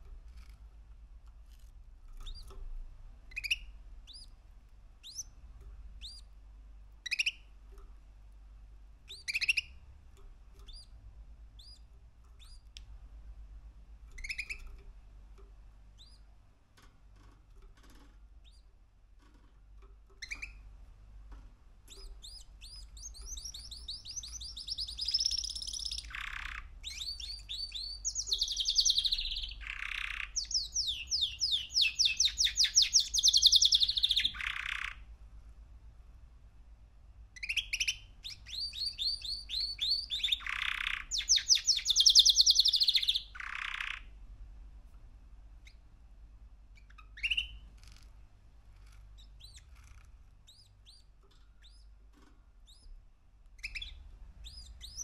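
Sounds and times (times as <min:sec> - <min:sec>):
canary chirping: 0:00.0 - 0:35.2, 0:37.2 - 0:44.2, 0:45.5 - 0:55.0
canary trilling song: 0:01.2 - 0:13.2, 0:13.8 - 0:35.2, 0:37.2 - 0:44.3, 0:45.5 - 0:46.0, 0:46.6 - 0:55.0.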